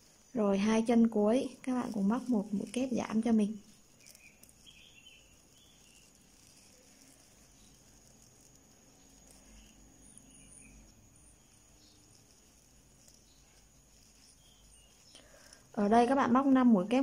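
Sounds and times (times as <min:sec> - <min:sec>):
soft yarn rustles: 0:00.0 - 0:17.0
steady high hiss: 0:00.0 - 0:17.0.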